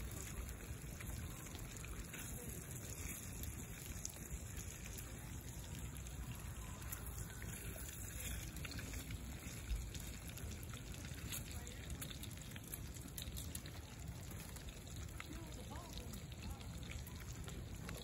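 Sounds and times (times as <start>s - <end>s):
campfire burning with crackles: 0.0s - 18.0s
meat sizzling in a pan: 0.0s - 18.0s.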